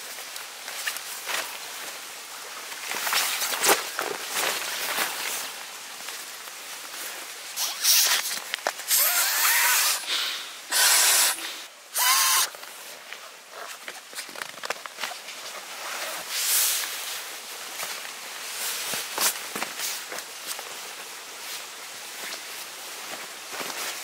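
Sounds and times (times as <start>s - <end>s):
nylon fabric rustling: 0.0s - 9.4s, 12.3s - 24.0s.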